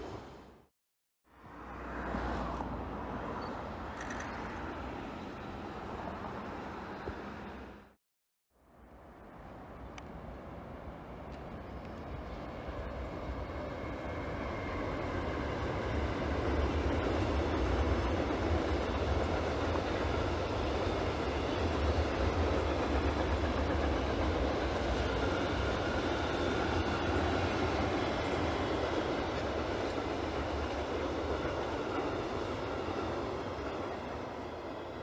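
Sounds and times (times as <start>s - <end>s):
freight train rolling past: 1.4s - 8.0s, 10.2s - 35.0s.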